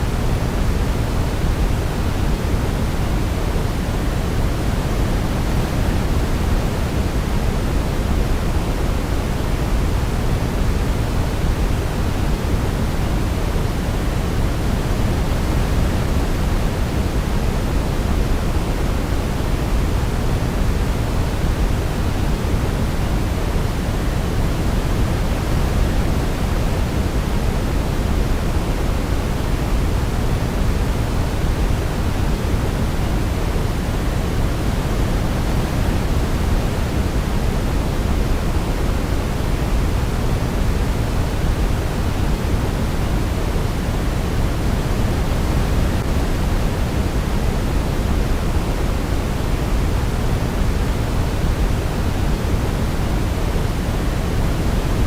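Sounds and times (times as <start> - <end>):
deep steady hiss: 0.0 - 55.0.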